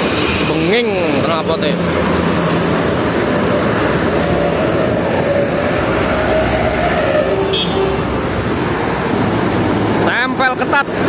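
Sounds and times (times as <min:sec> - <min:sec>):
heavy vehicles passing: 0:00.0 - 0:11.0.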